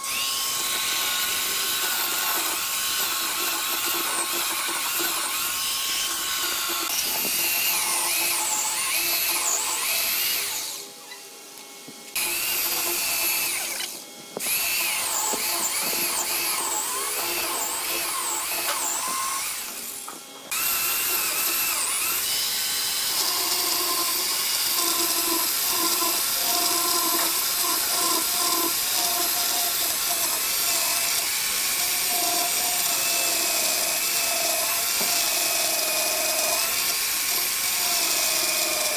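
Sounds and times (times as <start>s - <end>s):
electric chainsaw cutting wood: 0.0s - 38.9s.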